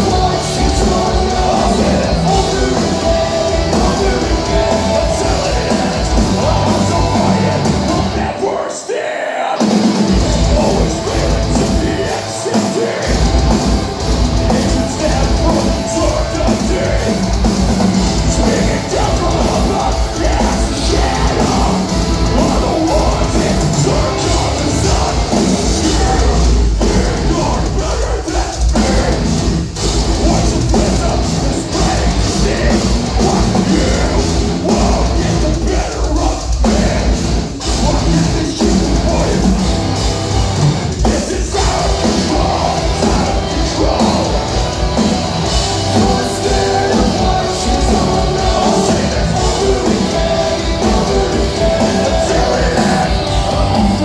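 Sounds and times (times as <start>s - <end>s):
person singing: 0.0s - 29.4s, 30.0s - 39.8s, 40.9s - 54.0s
distorted guitars: 0.0s - 54.0s
drums: 0.0s - 54.0s.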